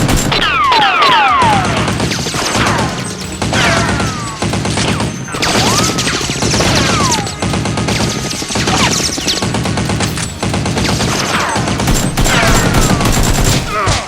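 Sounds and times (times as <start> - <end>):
automatic gunfire: 0.0 - 14.0.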